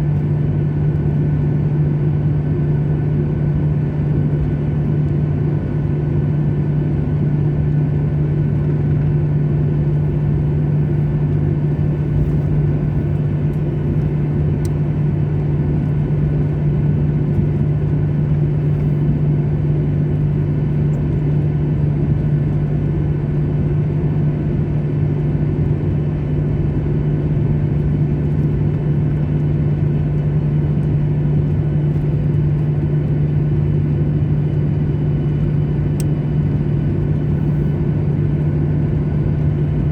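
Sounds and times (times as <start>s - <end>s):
jet engines drone in cabin: 0.0s - 39.9s.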